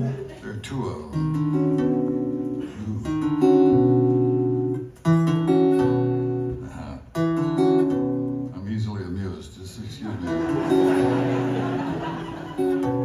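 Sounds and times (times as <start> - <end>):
acoustic guitar chords: 0.0 - 9.2, 10.2 - 13.0.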